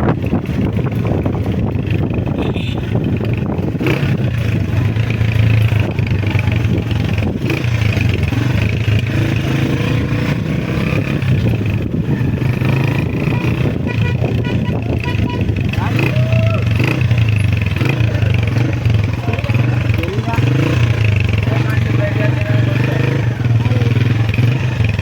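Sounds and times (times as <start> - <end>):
motorcycle engine running: 0.0 - 25.0
road and air noise: 0.0 - 25.0.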